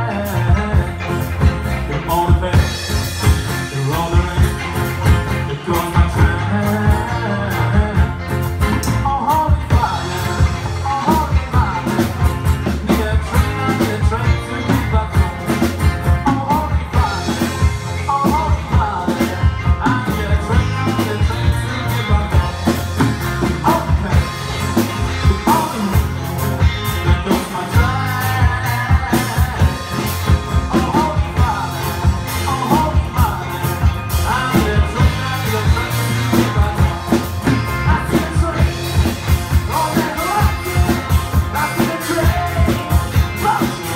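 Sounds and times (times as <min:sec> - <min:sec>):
bass guitar: 0:00.0 - 0:43.9
electric and acoustic guitars: 0:00.0 - 0:43.9
man singing: 0:00.0 - 0:43.9
drum beat: 0:07.8 - 0:43.9.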